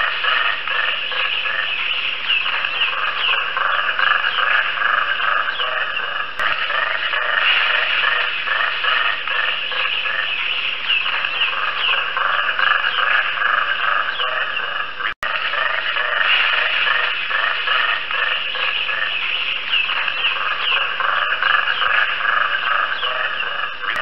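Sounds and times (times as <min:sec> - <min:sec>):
monkey rattling calls: 0:00.0 - 0:24.0.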